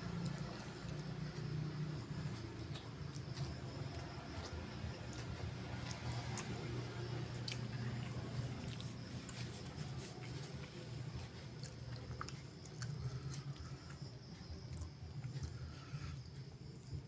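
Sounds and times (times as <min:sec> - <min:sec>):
low steady hum: 0:00.0 - 0:17.0
mouth chewing and biting: 0:00.2 - 0:17.0.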